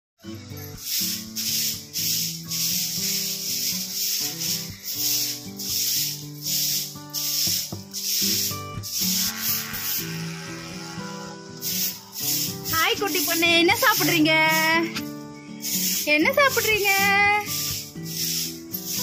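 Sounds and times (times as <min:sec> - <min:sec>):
broom sweeping concrete floor: 0:00.6 - 0:19.0.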